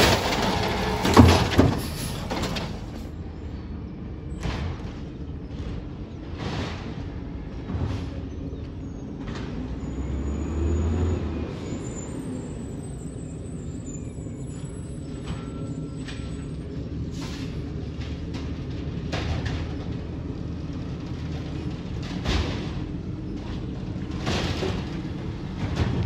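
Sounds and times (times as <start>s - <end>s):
diesel engine running low: 0.0s - 26.0s.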